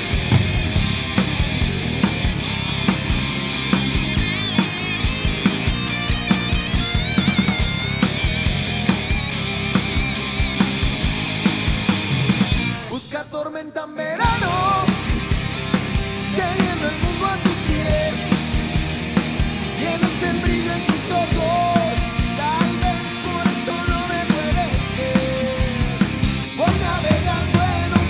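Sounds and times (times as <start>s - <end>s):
pitch-bending guitar melody: 0.0s - 12.9s, 14.3s - 28.0s
live rock band playing: 0.0s - 13.2s, 14.2s - 28.0s.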